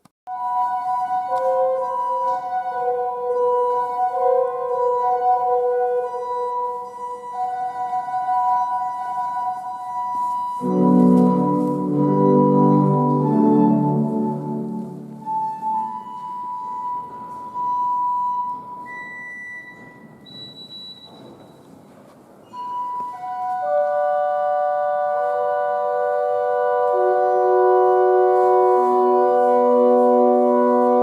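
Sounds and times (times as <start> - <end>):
church pipe organ notes: 0.3 - 21.4, 22.5 - 31.0.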